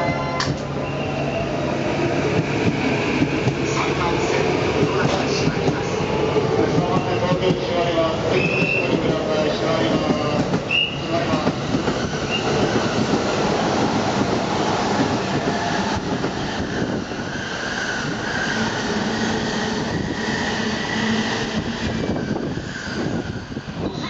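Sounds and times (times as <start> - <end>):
train wheels rumbling and clattering: 1.8 - 24.0.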